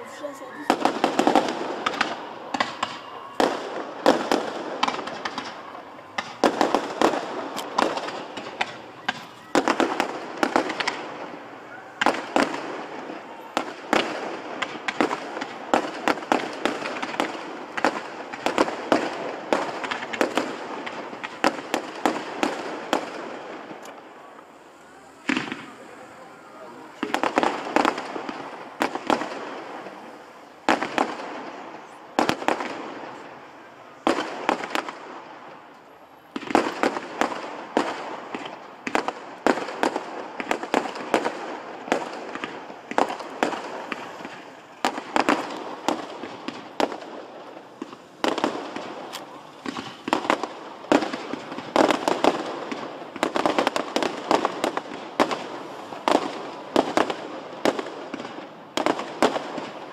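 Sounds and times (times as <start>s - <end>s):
fireworks bangs with echo: 0.0s - 59.9s.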